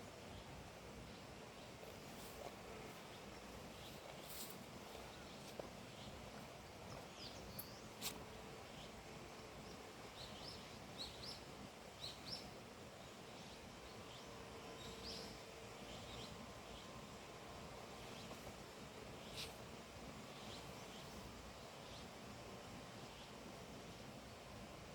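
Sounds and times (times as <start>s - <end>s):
outdoor ambient hiss: 0.0s - 24.9s
small birds chirping: 0.3s - 24.4s.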